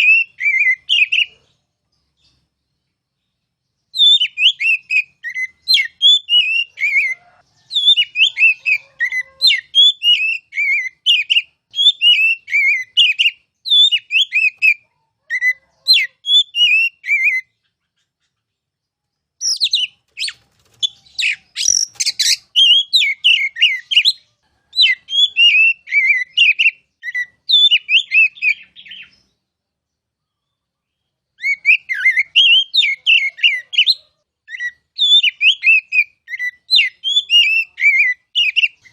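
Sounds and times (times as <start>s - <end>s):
bird whistled song phrases: 0.0s - 1.4s, 3.9s - 14.8s, 15.4s - 17.6s, 19.4s - 24.2s, 24.8s - 29.3s, 31.4s - 38.9s.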